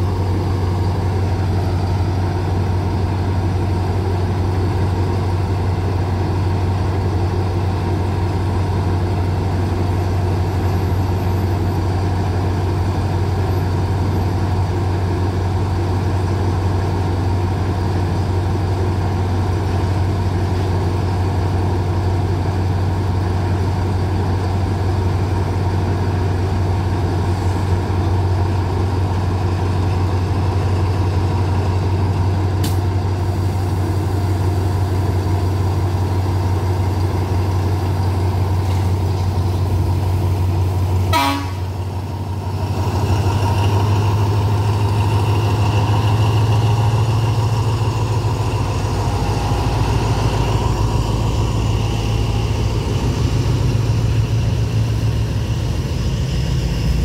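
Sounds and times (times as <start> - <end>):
locomotive engine drone: 0.0 - 57.0
passing freight wagons: 0.0 - 57.0.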